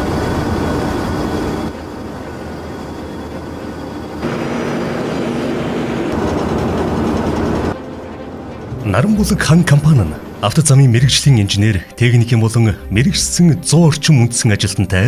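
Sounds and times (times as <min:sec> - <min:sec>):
paver machinery rumbling: 0:00.0 - 0:15.0.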